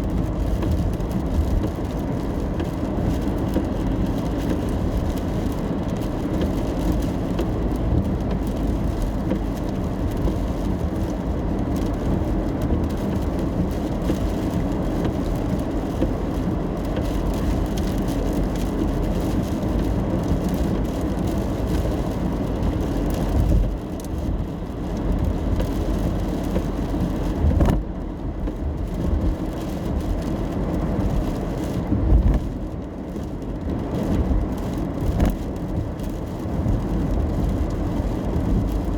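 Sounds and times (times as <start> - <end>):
car road noise in rain: 0.0 - 38.9.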